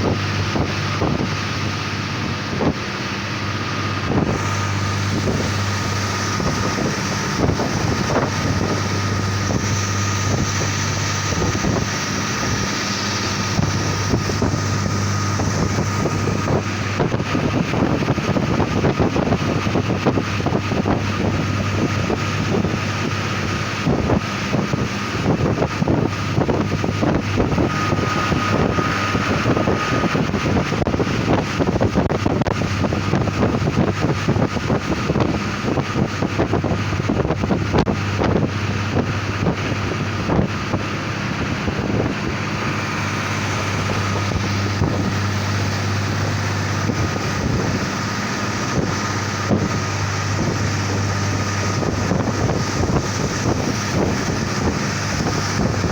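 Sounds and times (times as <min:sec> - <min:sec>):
railcar engine drone: 0:00.0 - 0:55.9
wind buffeting microphone: 0:00.0 - 0:55.9.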